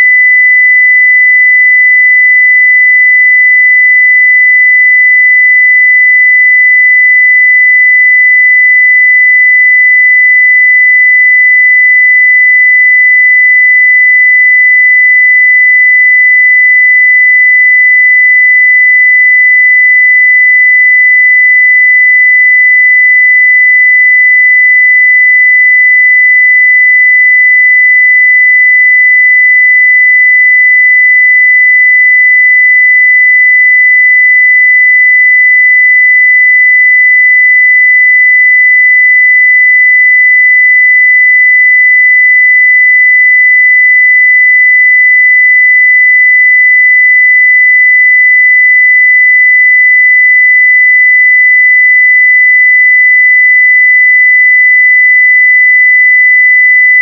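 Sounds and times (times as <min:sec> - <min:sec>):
sine wave test tone: 0:00.0 - 0:57.0.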